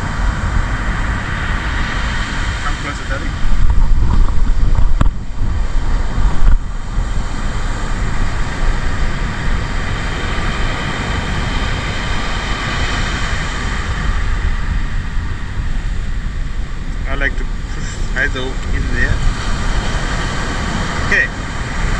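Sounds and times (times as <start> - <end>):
surf breaking on beach: 0.0 - 21.9
wind buffeting microphone: 0.0 - 21.9.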